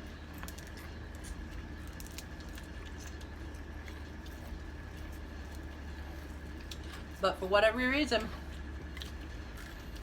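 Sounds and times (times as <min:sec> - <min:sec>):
person chewing food: 0:00.0 - 0:07.2, 0:08.3 - 0:10.0
steady low hum: 0:00.0 - 0:10.0.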